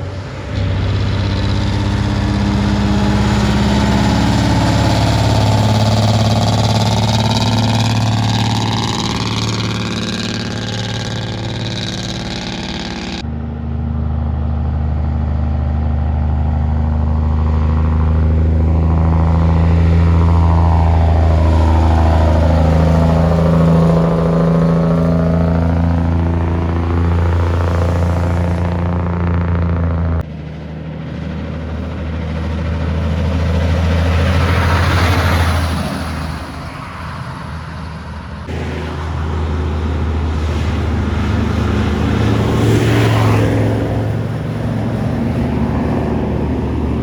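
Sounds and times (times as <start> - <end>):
heavy truck diesel engines: 0.0 - 47.0.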